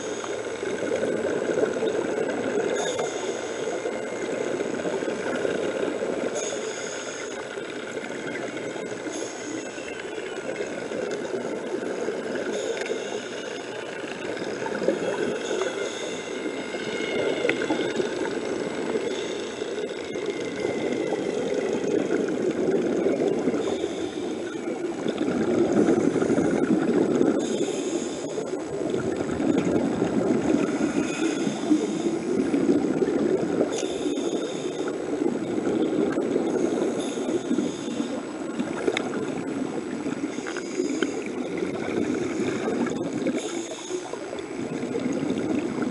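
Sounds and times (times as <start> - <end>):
underwater bubbles gurgling: 0.0 - 45.9.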